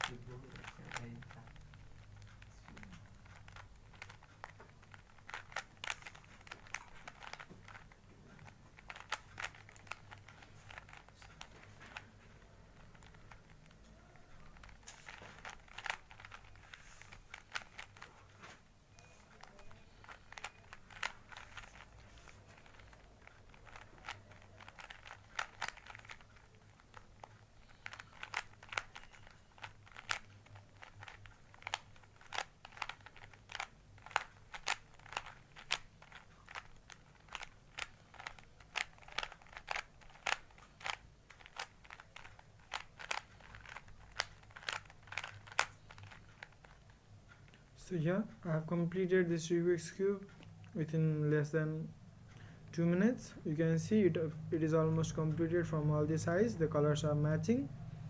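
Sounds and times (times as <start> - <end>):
puzzle cube clicking and rattling: 0.0 - 51.5, 52.4 - 57.7.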